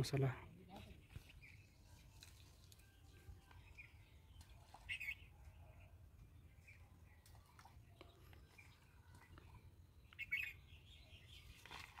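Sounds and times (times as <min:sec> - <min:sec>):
faint bird chirps: 0:00.6 - 0:12.0.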